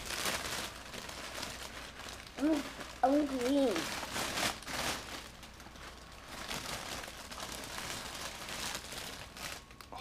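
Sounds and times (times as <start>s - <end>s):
crinkling and rustling: 0.0s - 10.0s.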